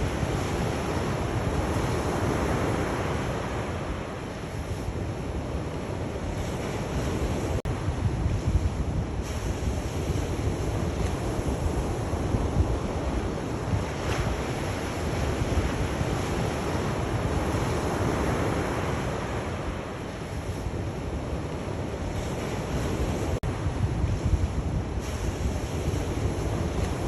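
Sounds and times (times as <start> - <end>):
sea waves washing on shore: 0.0 - 27.0
wind rumbling on microphone: 0.0 - 27.0.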